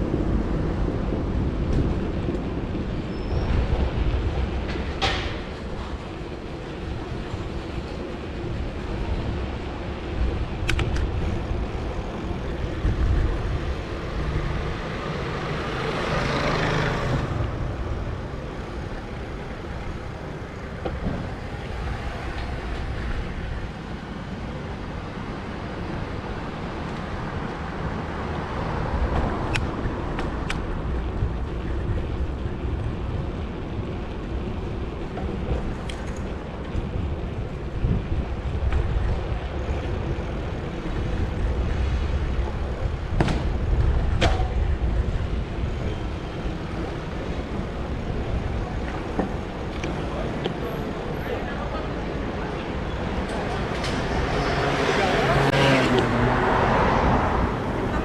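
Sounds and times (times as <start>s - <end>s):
city traffic rumble: 0.0s - 58.0s.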